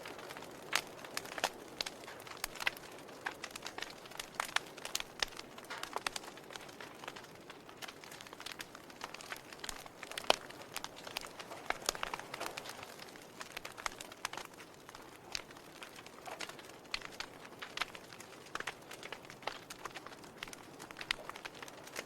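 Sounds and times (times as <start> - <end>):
log fire crackling: 0.0 - 22.0.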